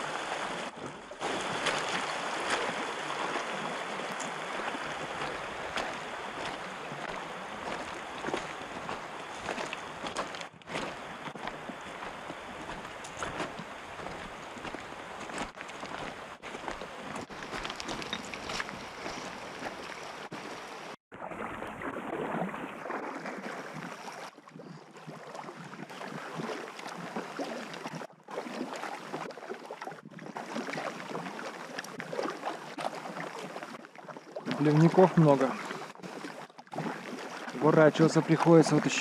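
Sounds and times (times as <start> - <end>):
paddle splashes: 0.0 - 39.0
water rushing and splashing: 0.0 - 39.0.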